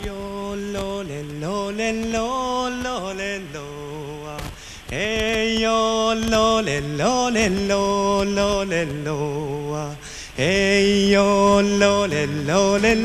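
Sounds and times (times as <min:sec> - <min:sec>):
man singing wordless held notes: 0:00.0 - 0:13.0.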